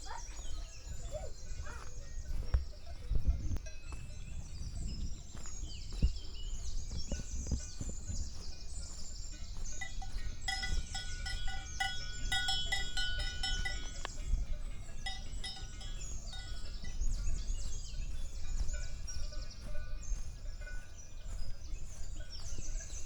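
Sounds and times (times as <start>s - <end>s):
high chirping birdsong: 0.0s - 23.0s
livestock bells clanking: 0.0s - 23.0s.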